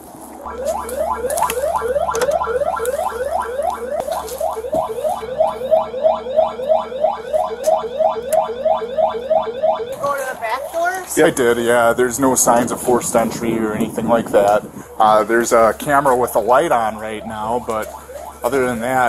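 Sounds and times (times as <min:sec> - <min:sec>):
low steady hum: 0:00.0 - 0:19.0
alarm siren whooping: 0:00.4 - 0:19.0.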